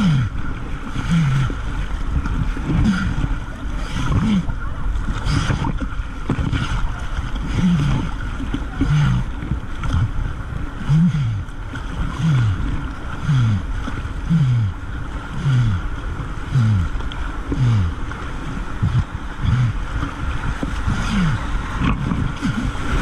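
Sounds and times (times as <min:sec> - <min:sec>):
low pitch-dropping sound: 0:00.0 - 0:23.0
water rushing and splashing: 0:00.0 - 0:23.0.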